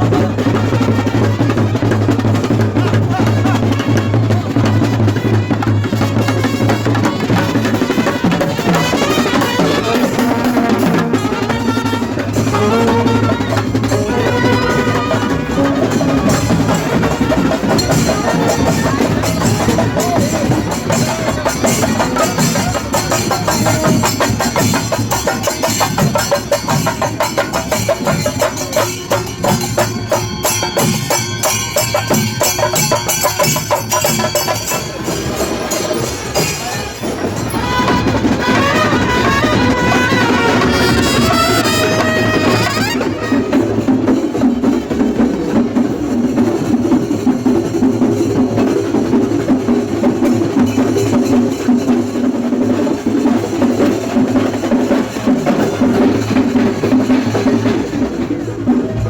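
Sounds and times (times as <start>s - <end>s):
drum-led percussion music: 0.0s - 59.0s.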